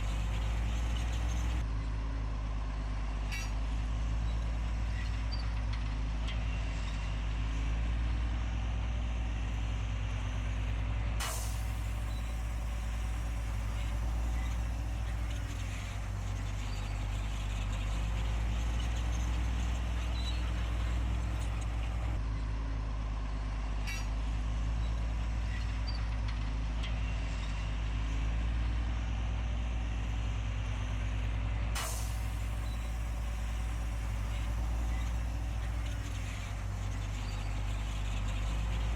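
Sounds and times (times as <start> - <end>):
diesel engine low rumble: 0.0 - 38.9.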